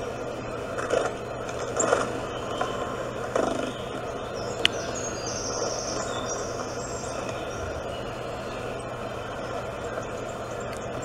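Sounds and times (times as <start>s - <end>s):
rushing outdoor background: 0.0s - 11.0s
faint high bird chirps: 1.7s - 11.0s.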